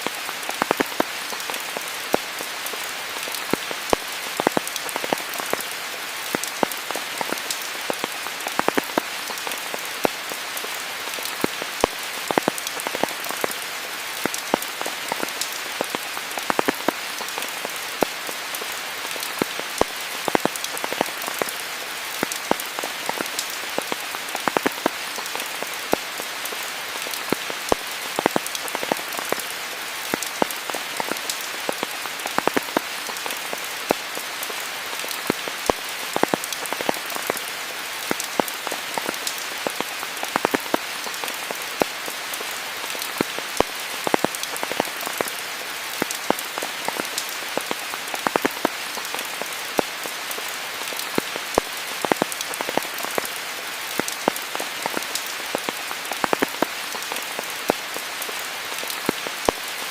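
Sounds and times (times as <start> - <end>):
rain hissing: 0.0 - 59.9
raindrops striking close by: 0.0 - 59.9.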